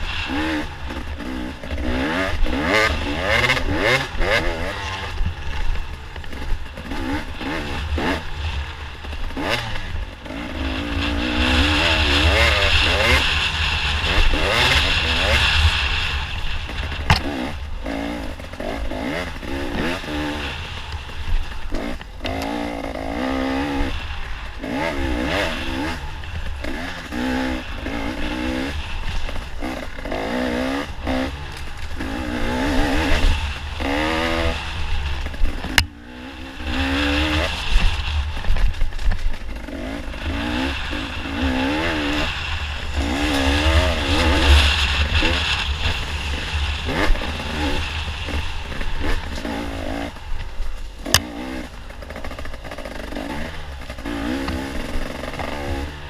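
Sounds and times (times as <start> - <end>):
dirt bike engine revving: 0.0 - 56.0
wind rumble on camera: 0.0 - 56.0.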